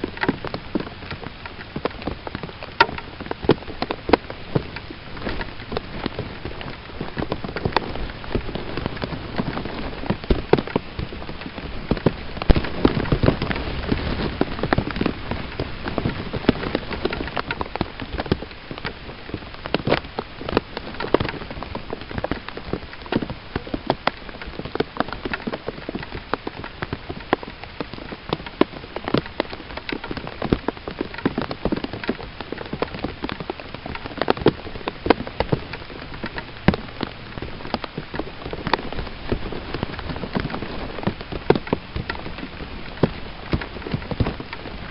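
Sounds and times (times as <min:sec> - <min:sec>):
rain falling: 0:00.0 - 0:44.9
raindrops tapping: 0:00.0 - 0:44.9.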